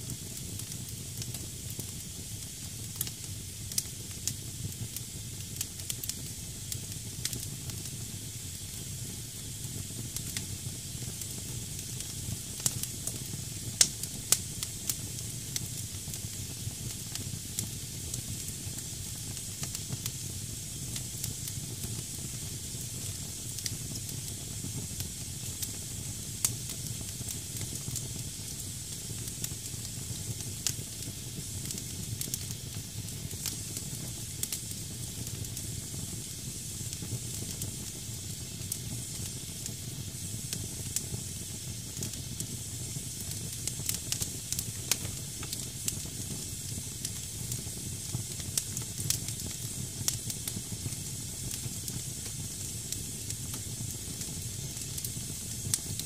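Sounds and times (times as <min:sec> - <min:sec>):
fire crackles and pops: 0:00.0 - 0:56.0
hiss of steaming logs: 0:00.0 - 0:56.0.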